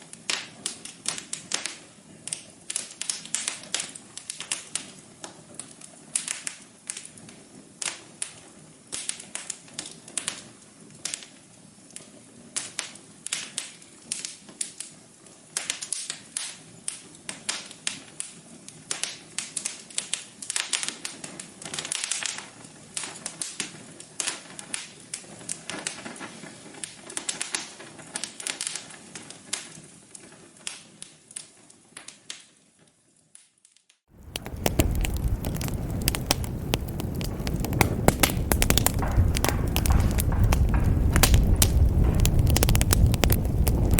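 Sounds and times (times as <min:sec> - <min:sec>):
wood fire crackling and popping: 0:00.0 - 0:32.7, 0:33.4 - 0:43.9.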